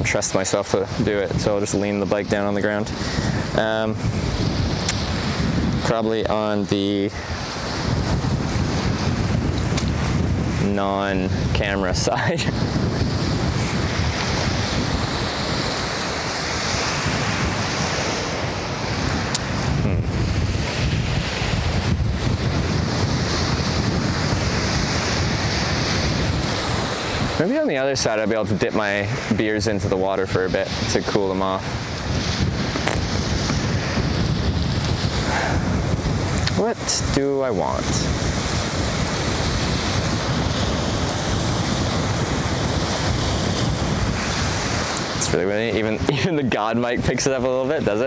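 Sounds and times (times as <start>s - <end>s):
strong wind buffeting microphone: 0.0s - 48.0s
waves washing onto shore: 0.0s - 48.0s.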